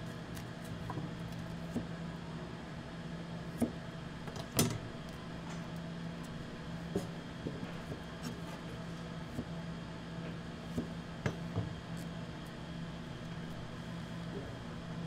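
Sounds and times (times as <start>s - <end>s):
kitchen machinery hum: 0.0s - 15.0s.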